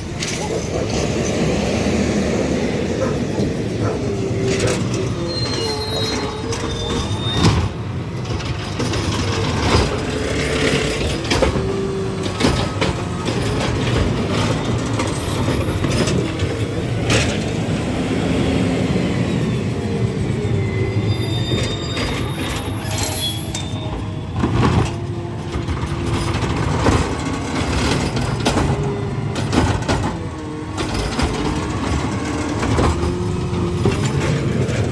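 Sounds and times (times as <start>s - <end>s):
diesel truck rumbling: 0.0s - 34.9s.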